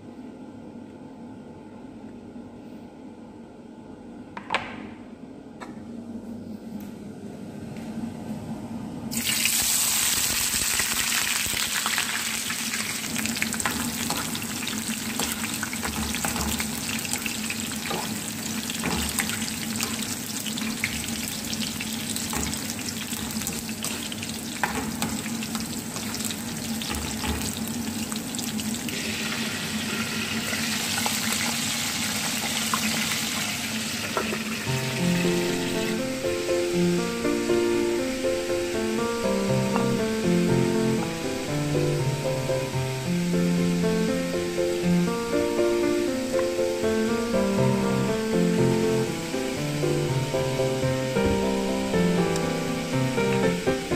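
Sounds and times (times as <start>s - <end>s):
onions sizzling in hot oil: 9.1s - 53.9s.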